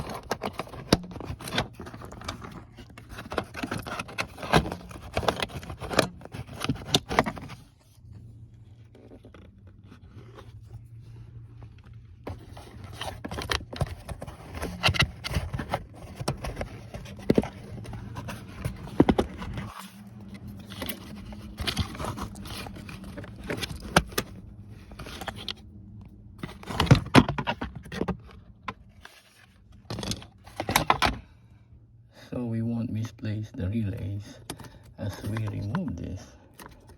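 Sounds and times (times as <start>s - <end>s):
plastic parts clicking and scraping: 0.0s - 31.4s, 34.3s - 36.9s
low steady hum: 0.0s - 36.9s.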